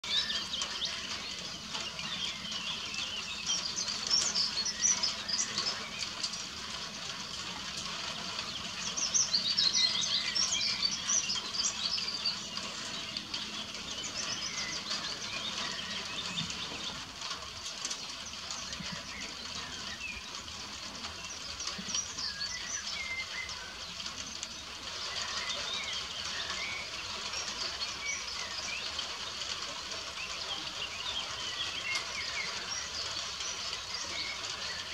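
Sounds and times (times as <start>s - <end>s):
birds chirping and trilling: 0.0s - 34.9s
rain hiss: 0.0s - 34.9s.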